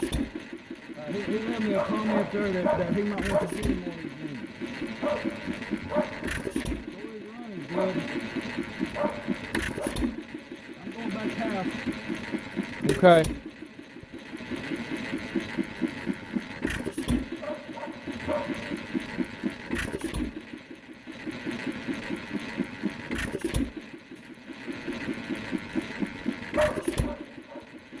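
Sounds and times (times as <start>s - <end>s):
hit-and-miss engine firing: 0.0s - 28.0s.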